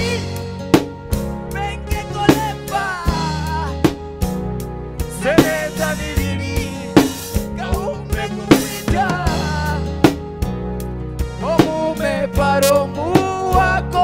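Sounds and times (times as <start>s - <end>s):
live band music: 0.0s - 12.9s.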